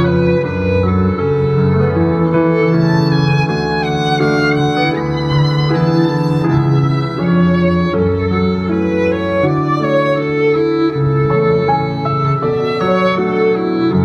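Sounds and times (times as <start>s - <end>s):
violin melody: 0.0s - 14.0s.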